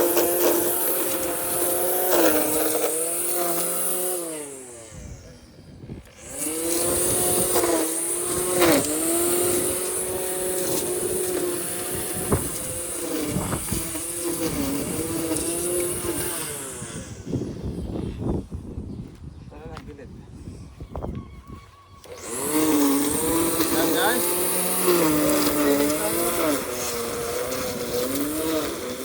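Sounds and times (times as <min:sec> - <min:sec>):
lawn mower engine under load: 0:00.0 - 0:17.9, 0:22.0 - 0:29.0.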